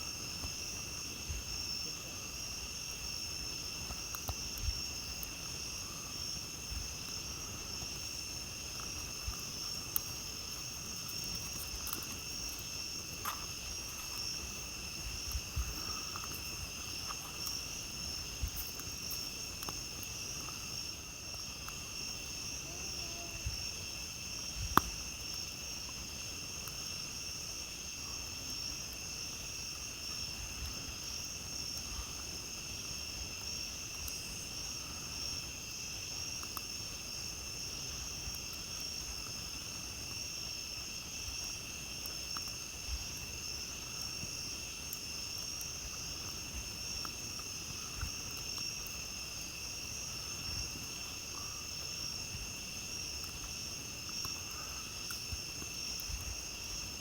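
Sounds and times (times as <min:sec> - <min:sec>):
campfire crackling: 0:00.0 - 0:57.0
night insects chorus: 0:00.0 - 0:57.0.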